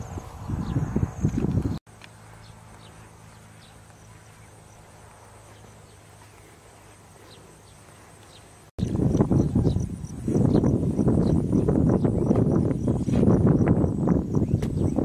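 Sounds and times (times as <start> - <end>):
high insect trill: 0.0 - 15.0.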